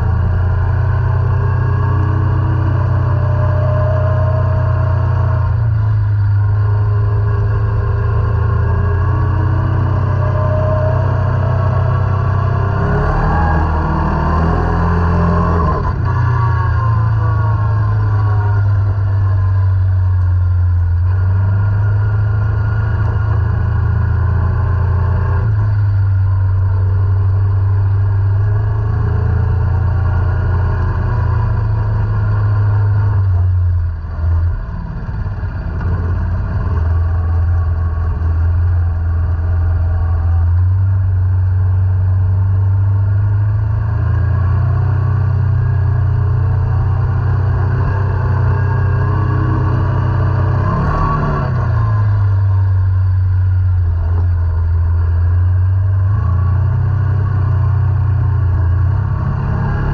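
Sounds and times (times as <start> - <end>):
atv engine droning: 0.0 - 59.9.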